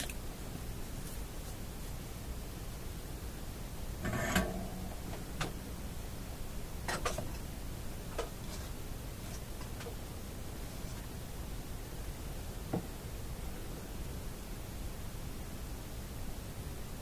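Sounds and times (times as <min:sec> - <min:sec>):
steady faint hiss: 0:00.0 - 0:17.0.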